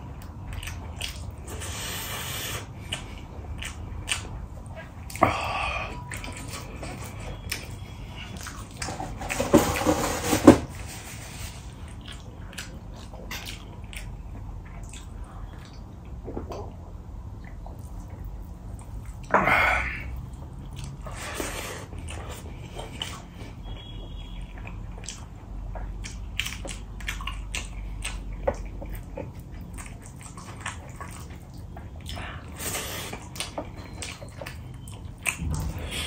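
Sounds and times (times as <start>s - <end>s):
person chewing and smacking: 0.0s - 9.5s, 11.6s - 36.0s.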